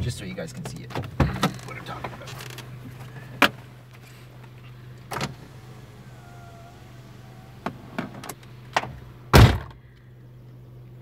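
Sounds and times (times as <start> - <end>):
car engine idling: 0.0 - 11.0
car door and controls clicking: 0.8 - 9.6.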